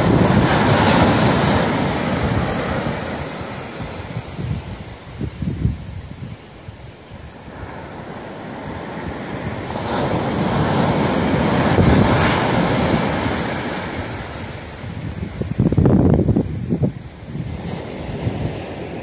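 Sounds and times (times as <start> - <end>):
ocean wave breaking: 0.0 - 5.8, 7.2 - 15.6, 16.9 - 19.0
wind buffeting microphone: 0.0 - 19.0.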